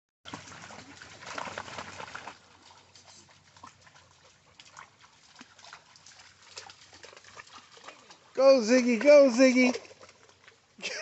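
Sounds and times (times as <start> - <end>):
dog splashing through stream: 0.3 - 11.0.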